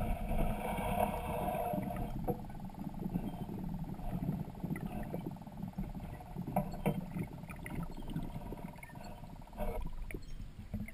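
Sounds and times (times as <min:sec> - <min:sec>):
steady buzzing hum: 0:00.0 - 0:10.9
water churning underwater: 0:00.0 - 0:10.9.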